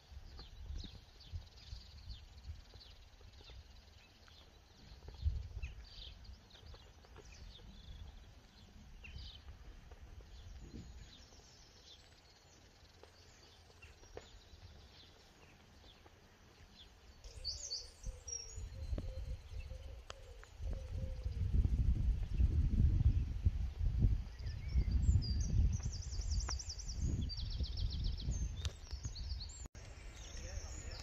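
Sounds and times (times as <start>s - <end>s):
wind rumble on microphone: 0.0s - 11.6s, 17.3s - 31.0s
birds chirping and singing: 0.0s - 31.0s.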